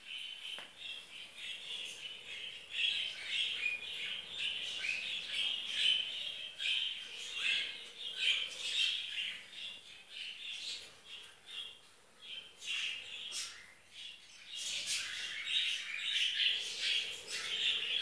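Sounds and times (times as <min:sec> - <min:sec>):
budgerigars chirping and squawking: 0:01.2 - 0:18.0.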